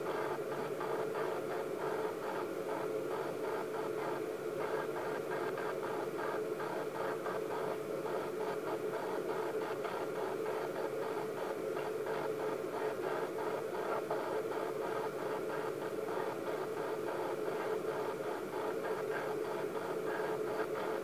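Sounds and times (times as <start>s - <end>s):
speaker hiss with hum: 0.0s - 21.0s.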